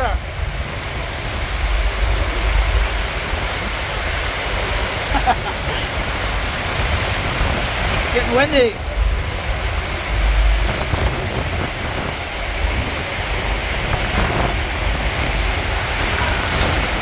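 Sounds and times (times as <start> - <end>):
waterfall roaring: 0.0 - 17.0
wind buffeting microphone: 0.0 - 17.0.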